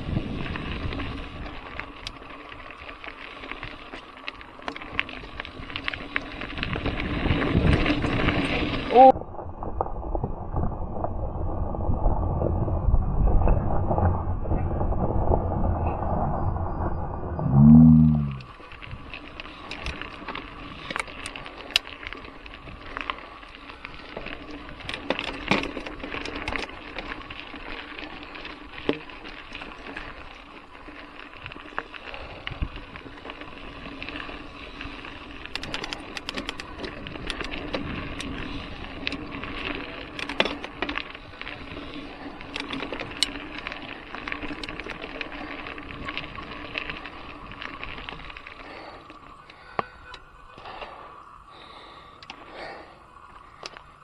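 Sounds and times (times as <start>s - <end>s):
mountain bike tyre and drivetrain noise: 0.0s - 54.0s.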